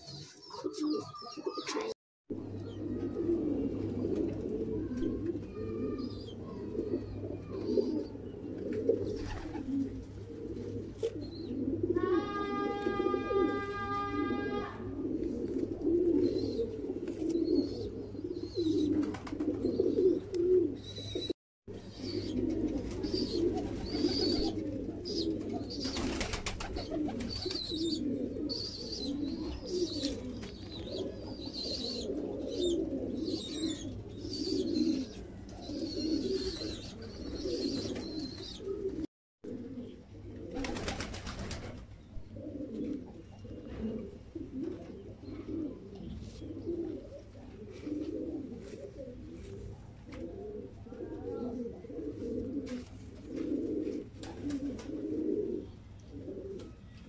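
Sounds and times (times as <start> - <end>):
pigeons cooing: 0.0 - 56.9.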